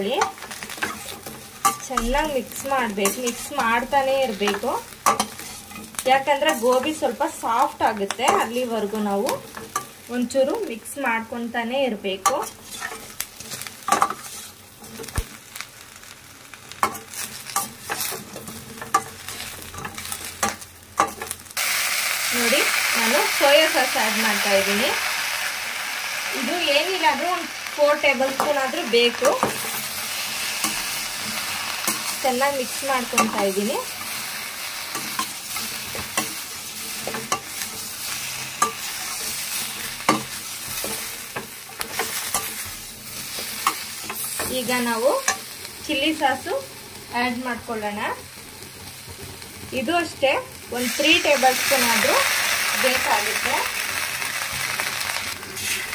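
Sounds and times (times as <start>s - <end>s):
food sizzling while frying: 0.0s - 55.9s.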